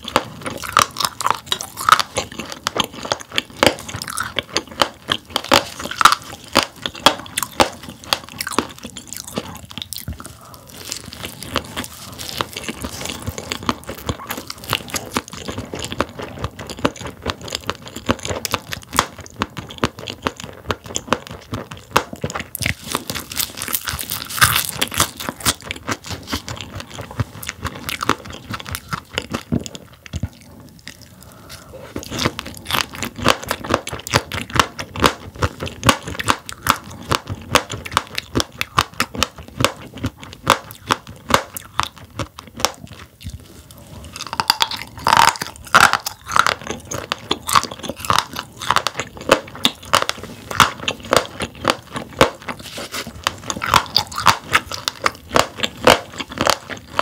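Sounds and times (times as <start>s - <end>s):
chewing crunchy fish roe: 0.0s - 57.0s.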